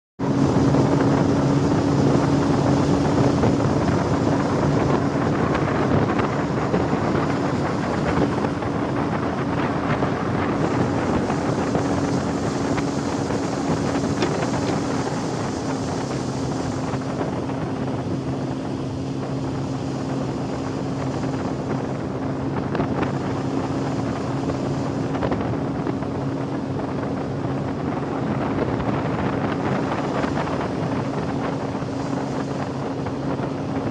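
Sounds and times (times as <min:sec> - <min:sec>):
boat motor humming: 0:00.2 - 0:33.9
wind buffeting microphone: 0:00.2 - 0:33.9.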